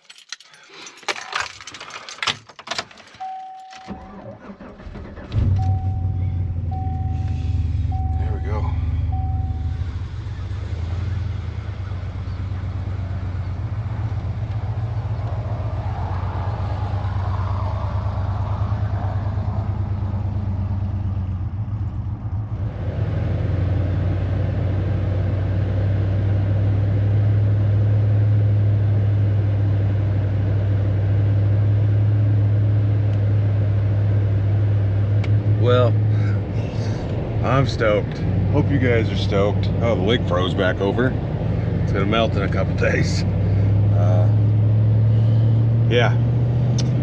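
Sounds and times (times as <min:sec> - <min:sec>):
truck engine and road drone: 0:00.0 - 0:47.0.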